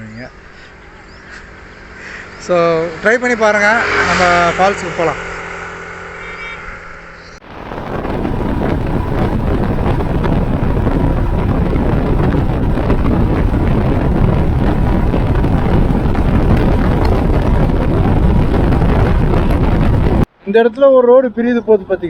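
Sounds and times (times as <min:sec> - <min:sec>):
motorcycle engine running: 0:00.0 - 0:20.3
wind rushing over microphone: 0:00.0 - 0:20.3.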